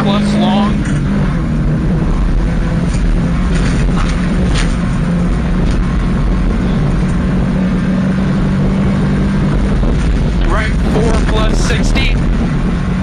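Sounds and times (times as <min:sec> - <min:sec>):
car engine at high revs: 0:00.0 - 0:13.0
tyre and road noise: 0:00.0 - 0:13.0.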